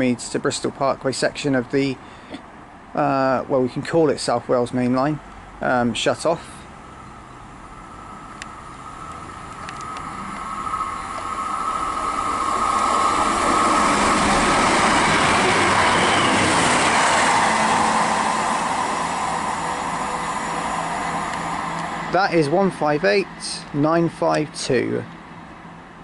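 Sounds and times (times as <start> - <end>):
diesel train passing: 0.0 - 26.0.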